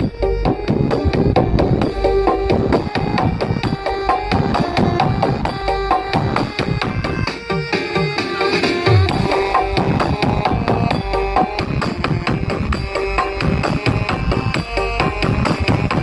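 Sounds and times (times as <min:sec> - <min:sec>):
fast hand-drum pattern: 0:00.0 - 0:16.0
loud drum-heavy music: 0:00.0 - 0:16.0.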